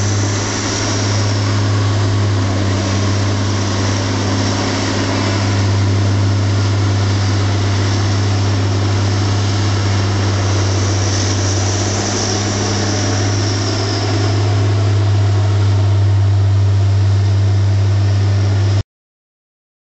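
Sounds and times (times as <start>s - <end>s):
machine engine running: 0.0s - 18.8s.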